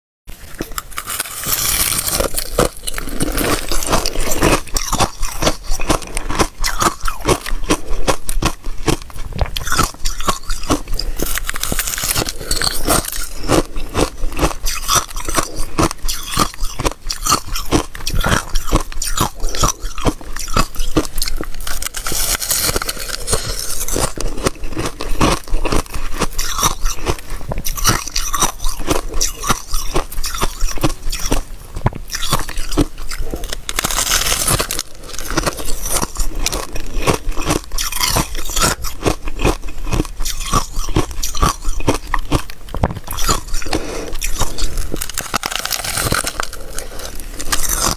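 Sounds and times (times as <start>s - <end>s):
ice crunching while chewed: 0.3s - 47.9s.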